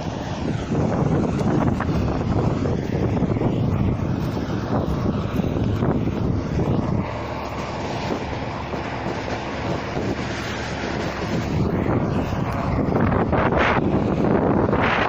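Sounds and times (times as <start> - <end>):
combine harvester running: 0.0 - 15.0
wind buffeting microphone: 0.0 - 15.0.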